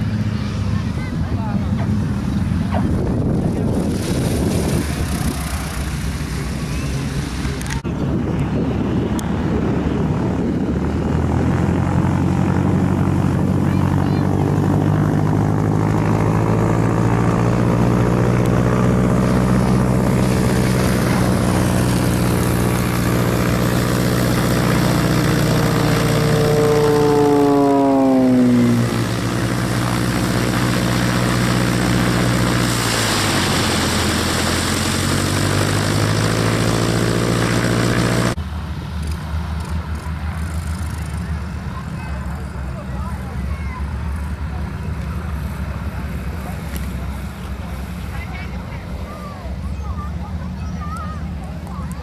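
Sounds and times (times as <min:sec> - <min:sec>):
propeller plane flying past: 0:00.0 - 0:52.0.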